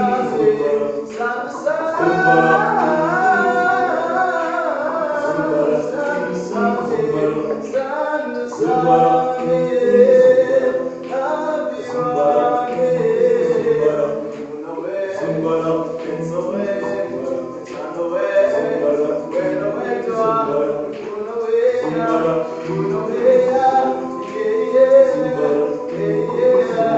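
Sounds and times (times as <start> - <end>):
a cappella choir singing: 0.0 - 26.9.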